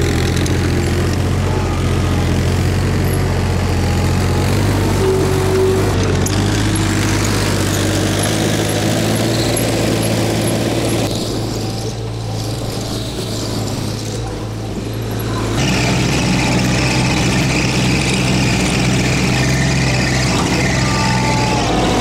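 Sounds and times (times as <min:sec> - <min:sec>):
diesel engine running: 0:00.0 - 0:22.0
high whine: 0:00.0 - 0:22.0.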